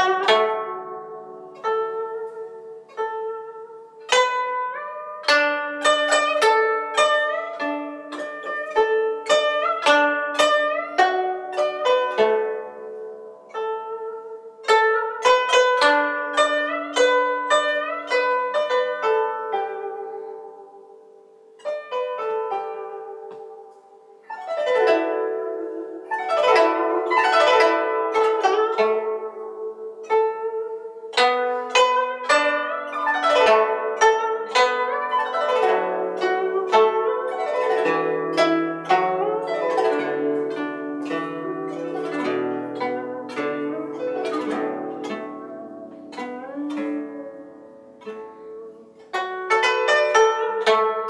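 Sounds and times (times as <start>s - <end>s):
guzheng plucked notes: 0.0s - 51.0s.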